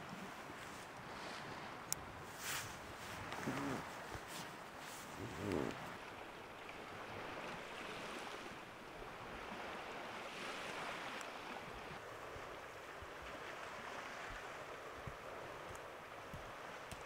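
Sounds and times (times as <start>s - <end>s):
small waves washing onto shore: 0.0s - 17.0s.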